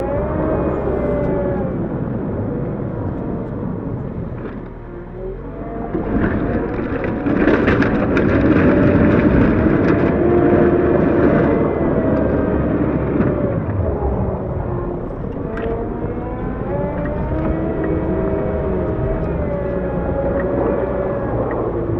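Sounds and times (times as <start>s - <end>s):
wheel loader diesel engine: 0.0s - 21.9s.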